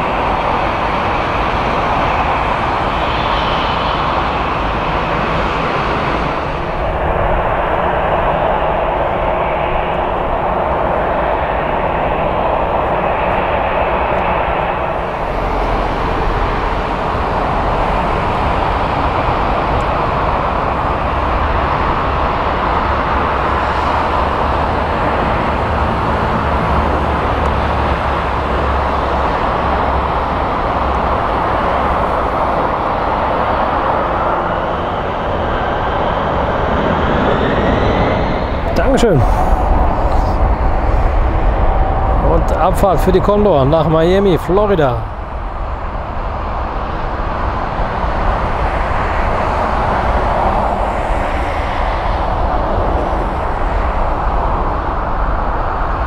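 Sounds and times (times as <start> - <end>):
jet airliner engines rumbling: 0.0 - 56.0
rising whine: 0.0 - 56.0.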